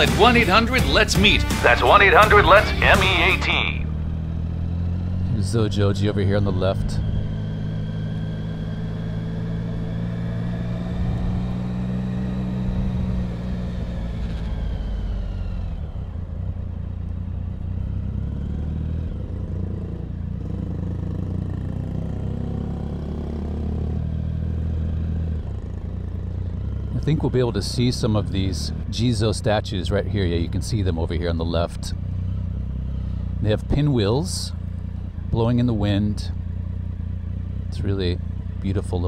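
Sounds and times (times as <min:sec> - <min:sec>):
motorcycle engine running: 0:03.4 - 0:29.3, 0:30.2 - 0:39.0.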